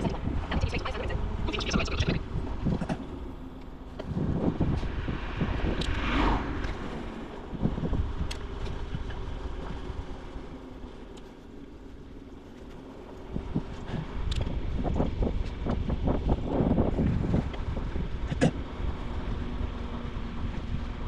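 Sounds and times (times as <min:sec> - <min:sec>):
wind buffeting microphone: 0:00.0 - 0:10.3, 0:12.9 - 0:21.0.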